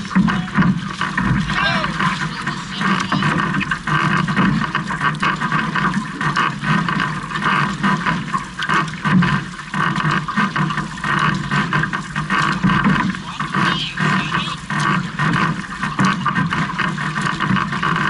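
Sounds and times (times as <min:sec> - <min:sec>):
water splashing along canoe hull: 0:00.0 - 0:18.0.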